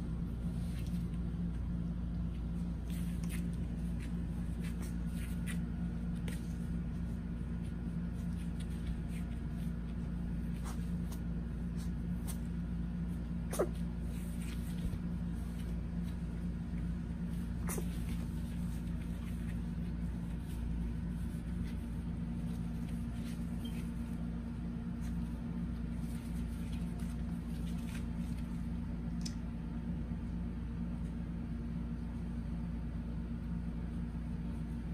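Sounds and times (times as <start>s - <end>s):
paws and claws on foam mat: 0.0s - 34.9s.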